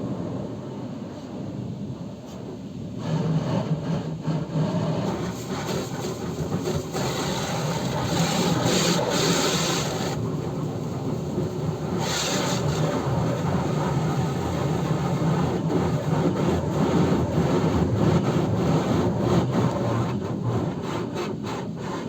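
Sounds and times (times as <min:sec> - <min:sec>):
car wash low hum: 0:00.0 - 0:22.0
car wash water hiss: 0:01.1 - 0:22.0.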